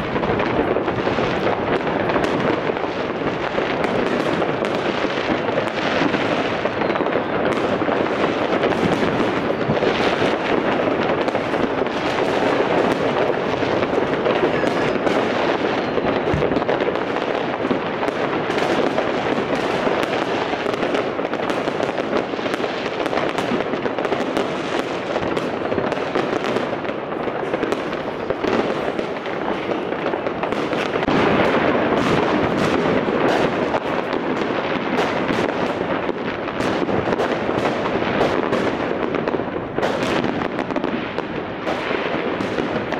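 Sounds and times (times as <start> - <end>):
fireworks and firecrackers banging: 0.0 - 42.9.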